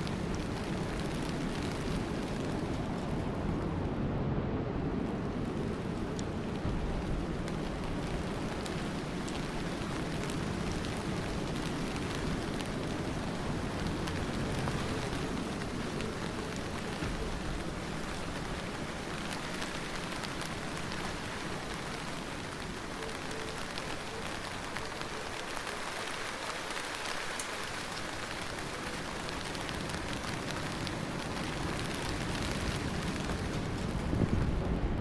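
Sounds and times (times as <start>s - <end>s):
raindrops ticking: 0.0s - 3.0s, 5.9s - 34.4s
heavy rain falling: 0.0s - 3.8s, 4.8s - 35.0s.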